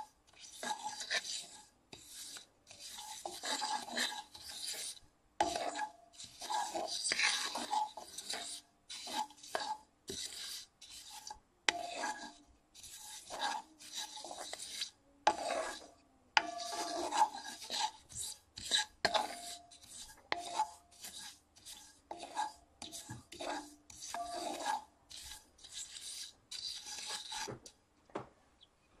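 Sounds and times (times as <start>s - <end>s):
spatula scraping a skillet: 0.0s - 27.8s.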